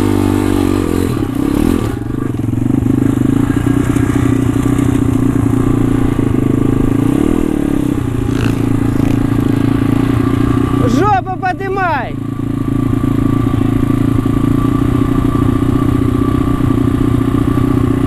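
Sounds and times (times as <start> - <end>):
pit bike engine running: 0.0 - 18.0.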